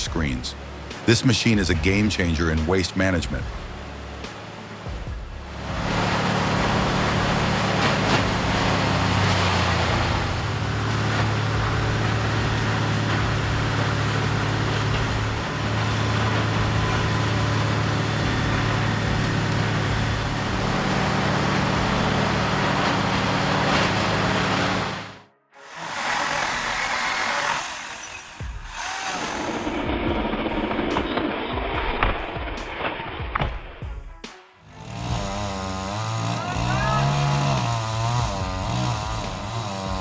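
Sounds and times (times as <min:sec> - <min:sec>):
diesel engine running: 0:00.0 - 0:31.5, 0:34.7 - 0:40.0.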